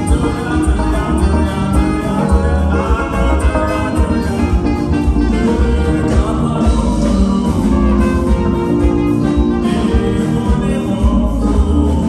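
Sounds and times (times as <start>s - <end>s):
band music with strong bass: 0.0s - 12.0s.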